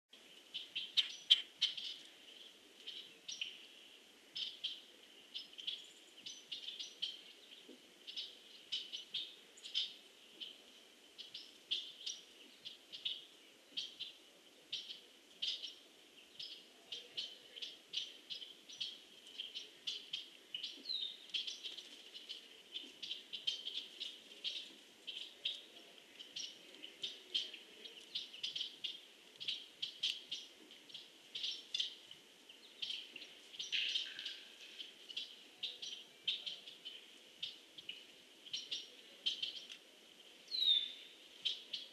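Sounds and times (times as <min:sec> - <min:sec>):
small birds chip notes: 0:00.2 - 0:41.9.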